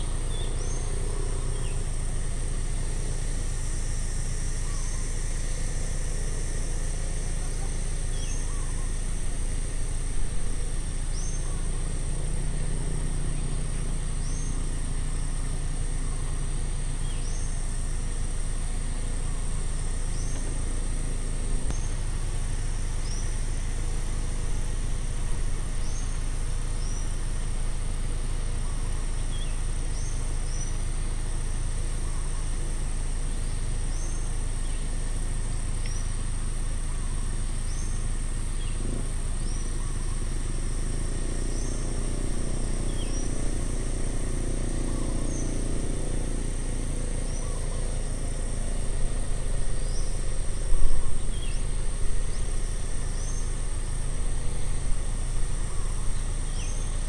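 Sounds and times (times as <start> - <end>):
distant road traffic rumble: 0.0 - 57.0
high insect drone: 0.0 - 57.0.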